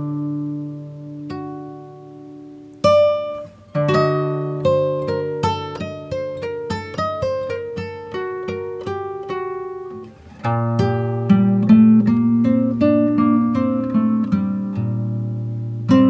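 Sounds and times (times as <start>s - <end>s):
plucked acoustic guitar: 0.0s - 16.0s.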